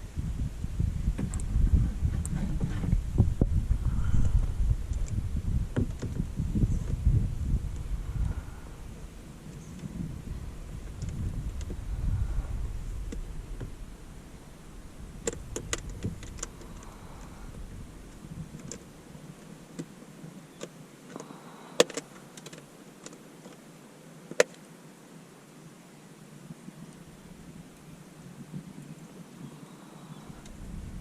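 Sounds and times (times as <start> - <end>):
wind rumble on microphone: 0.0 - 20.5, 26.4 - 31.0.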